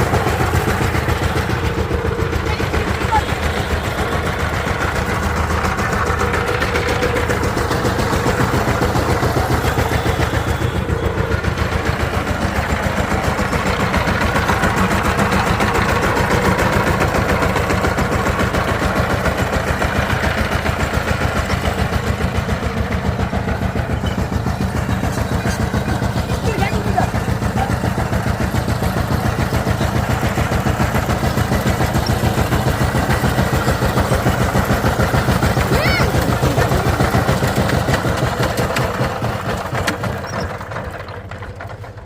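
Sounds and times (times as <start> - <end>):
diesel engine chugging: 0.0 - 42.0.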